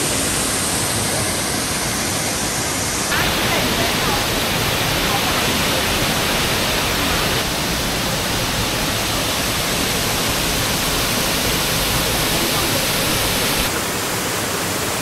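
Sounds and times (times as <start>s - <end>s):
rushing creek water: 0.0s - 15.0s.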